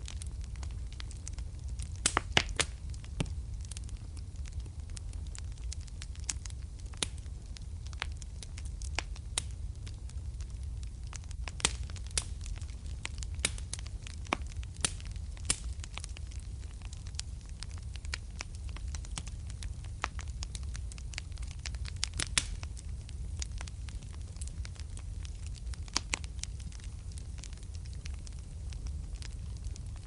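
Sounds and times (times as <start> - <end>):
fire popping and snapping: 0.0 - 30.0
fire rumbling: 0.0 - 30.0.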